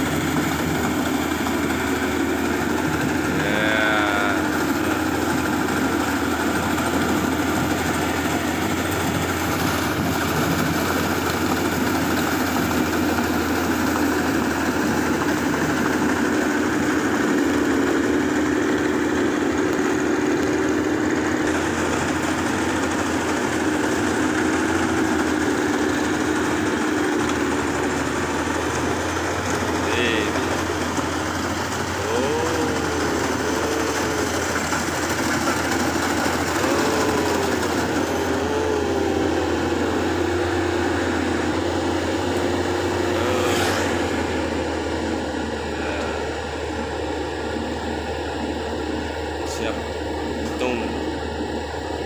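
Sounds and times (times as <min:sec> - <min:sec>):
combine harvester engine hum: 0:00.0 - 0:52.0.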